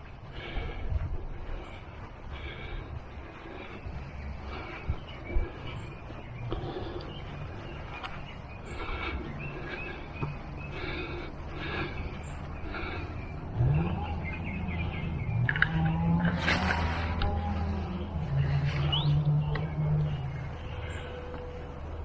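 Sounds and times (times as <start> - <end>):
birds chirping: 0.0 - 22.0
vehicle engine hum: 0.0 - 22.0.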